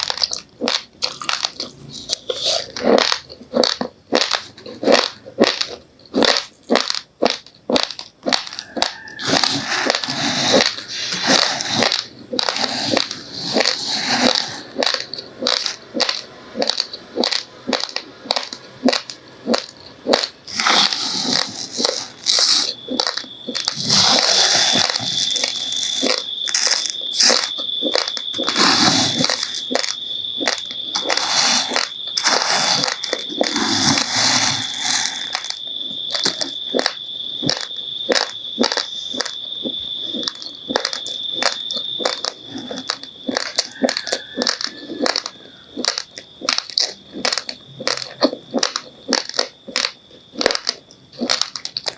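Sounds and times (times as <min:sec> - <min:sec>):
raw rice crunched between teeth: 0:00.0 - 0:51.9.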